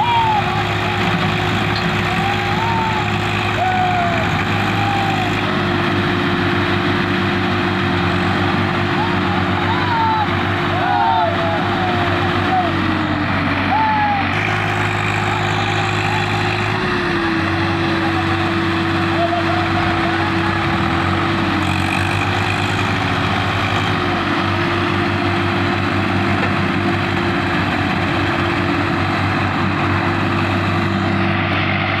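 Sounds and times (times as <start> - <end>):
tractor diesel engines under load: 0.0 - 32.0.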